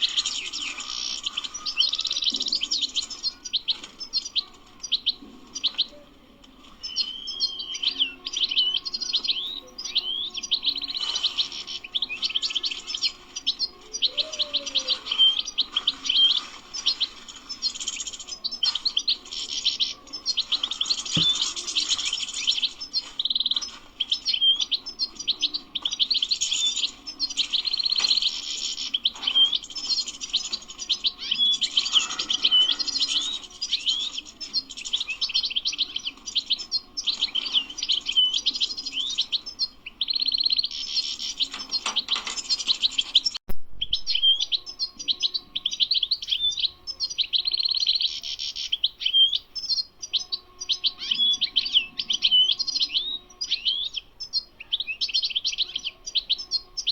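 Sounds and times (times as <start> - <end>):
bird twittering song: 0.0 - 56.9.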